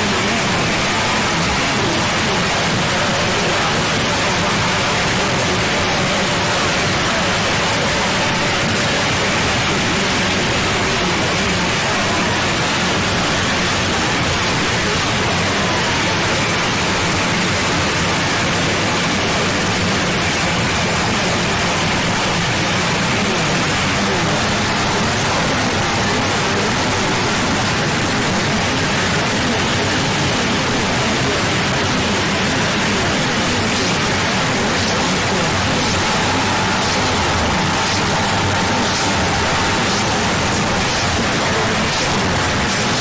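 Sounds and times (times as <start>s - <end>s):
loud steady static hiss: 0.0s - 43.0s.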